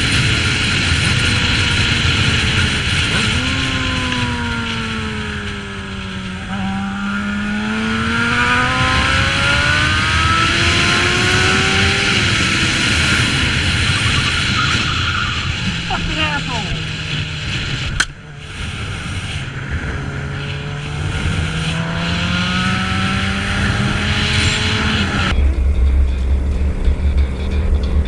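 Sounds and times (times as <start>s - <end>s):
motorcycle engine: 0.0s - 28.0s
wind rush: 0.0s - 28.0s.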